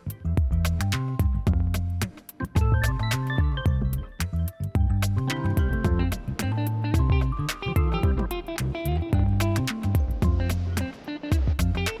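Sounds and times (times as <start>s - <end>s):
background music with steady beat: 0.0s - 12.0s
drum pattern: 0.0s - 12.0s
plucked and keyed instrument notes: 2.4s - 12.0s.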